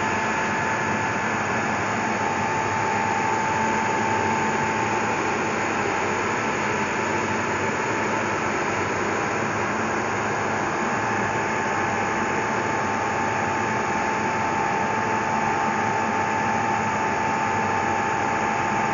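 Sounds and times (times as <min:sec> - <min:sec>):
machine whirring with whine: 0:00.0 - 0:18.9.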